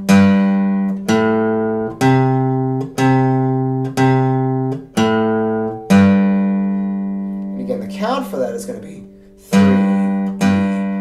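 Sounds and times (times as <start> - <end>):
acoustic guitar bass notes: 0.0 - 11.0.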